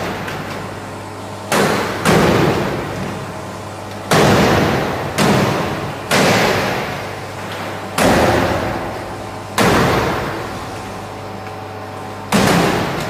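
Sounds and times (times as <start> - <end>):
faint machine hum: 0.0 - 13.0.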